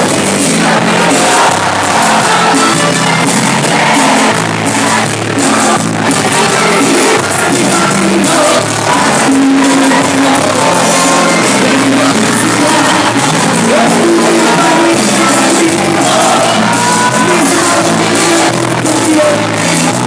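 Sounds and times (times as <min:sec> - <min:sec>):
crowd shouting along: 0:00.0 - 0:20.0
live cumbia band playing: 0:00.0 - 0:20.0
person singing: 0:00.0 - 0:20.0.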